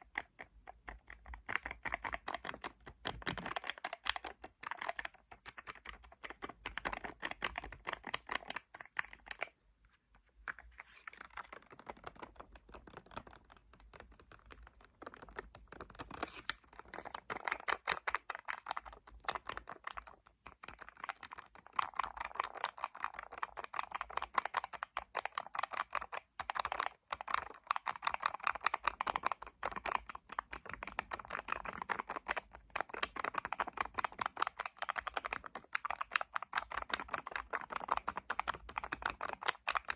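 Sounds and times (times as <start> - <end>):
fingers tapping hard objects: 0.0 - 9.6, 11.3 - 39.9.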